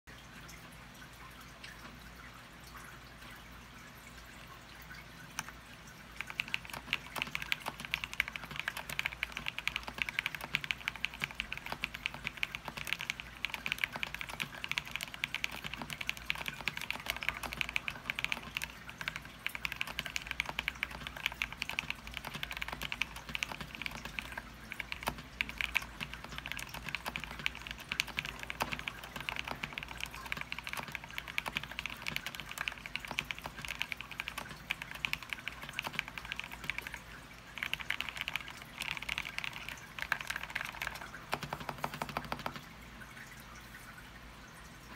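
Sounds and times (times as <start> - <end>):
typing on a mechanical keyboard: 5.2 - 42.7.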